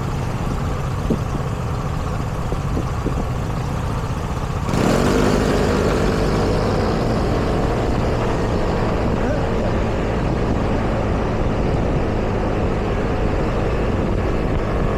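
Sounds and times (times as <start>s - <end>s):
city street traffic rumble: 0.0s - 14.9s.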